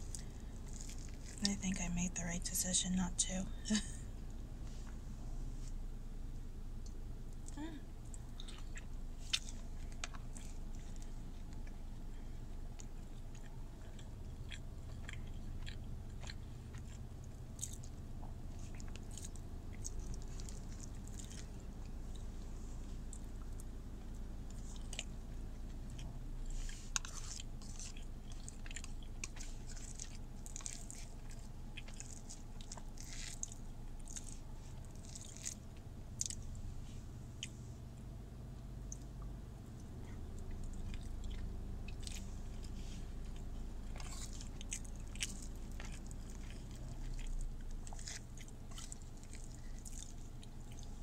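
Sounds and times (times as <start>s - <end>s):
person chewing food: 0.0s - 1.5s, 6.8s - 36.6s, 37.2s - 37.9s, 38.6s - 51.0s
steady low hum: 0.0s - 51.0s.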